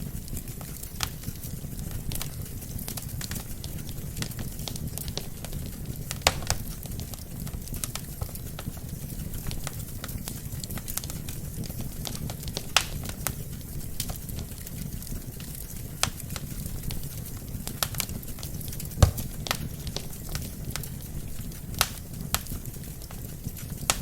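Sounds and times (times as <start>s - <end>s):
wood fire crackling: 0.0s - 24.0s
loud snaps of burning logs: 0.2s - 24.0s.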